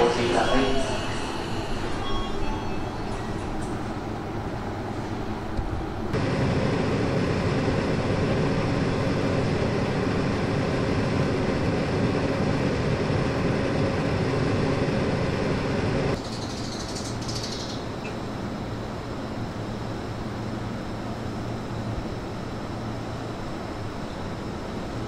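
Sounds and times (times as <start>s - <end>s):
electric train equipment humming: 0.0s - 25.0s.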